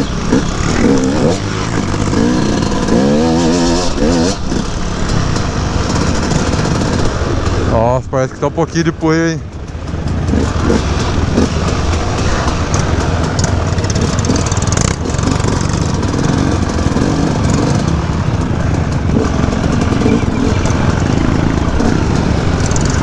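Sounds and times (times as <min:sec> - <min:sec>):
dirt bike engine running: 0:00.0 - 0:23.0
motorcycle engines: 0:00.0 - 0:23.0.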